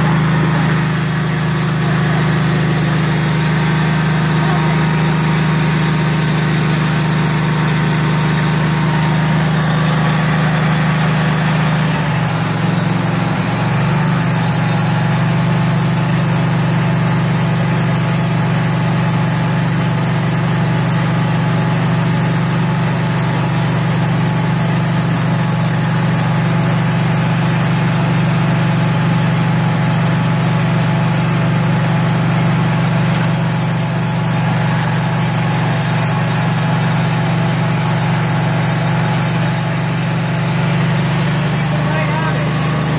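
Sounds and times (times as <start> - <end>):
sawmill engine running: 0.0 - 42.9.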